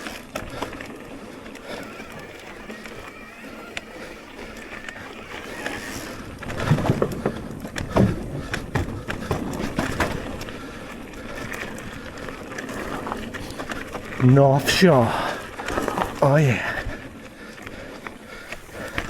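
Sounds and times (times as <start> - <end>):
bike tyre noise on trail: 0.0 - 19.0
chain and suspension rattling: 0.0 - 19.0.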